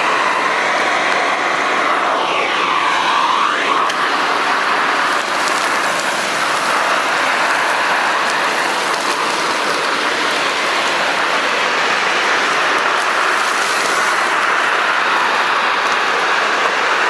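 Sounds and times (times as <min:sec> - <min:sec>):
dust extractor suction noise: 0:00.0 - 0:17.0.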